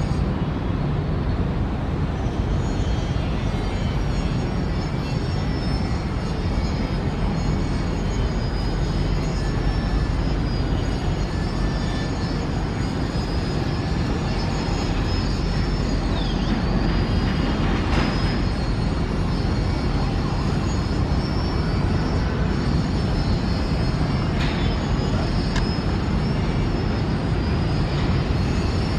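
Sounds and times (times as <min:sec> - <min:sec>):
jet engines rumbling: 0:00.0 - 0:28.9.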